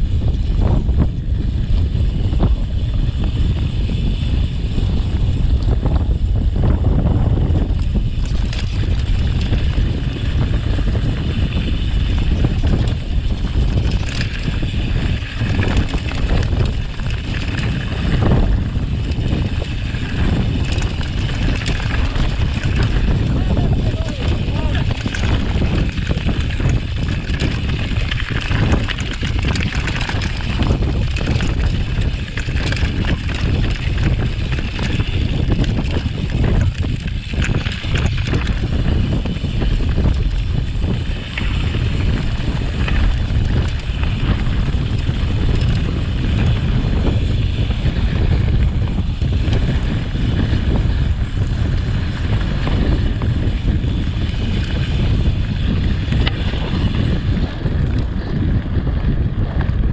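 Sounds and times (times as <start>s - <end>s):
bike rattling over rough trail: 0.0s - 59.9s
wind buffeting microphone: 0.0s - 59.9s.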